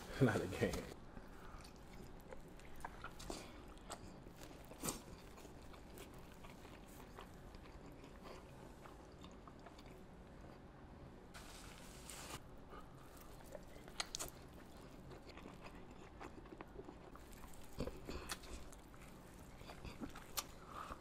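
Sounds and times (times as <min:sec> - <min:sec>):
person chewing a burger: 0:01.1 - 0:10.7, 0:12.1 - 0:21.0.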